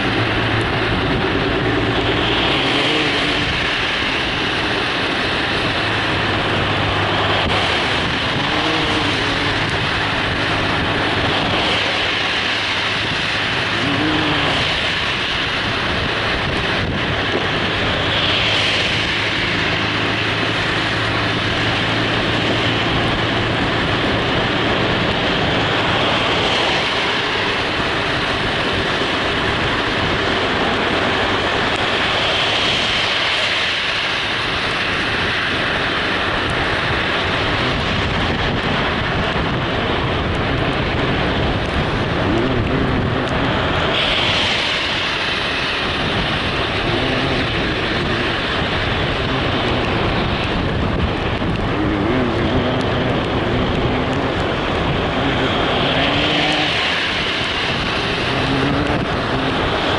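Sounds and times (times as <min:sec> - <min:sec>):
vehicle road and wind noise: 0:00.0 - 0:59.9.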